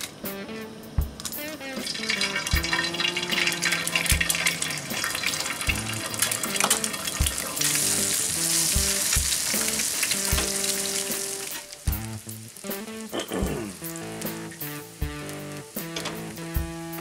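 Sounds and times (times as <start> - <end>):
background music with beat: 0.0 - 17.0
eggs sizzling and crackling: 1.2 - 17.0.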